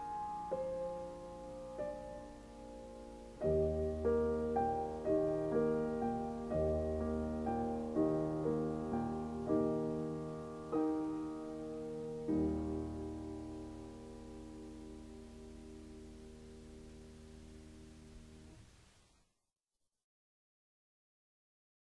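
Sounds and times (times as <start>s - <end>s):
piano music: 0.0s - 18.6s.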